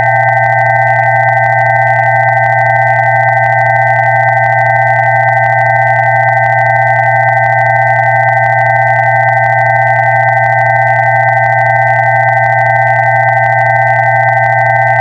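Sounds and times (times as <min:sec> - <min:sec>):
held electronic sine tones: 0:00.0 - 0:15.0.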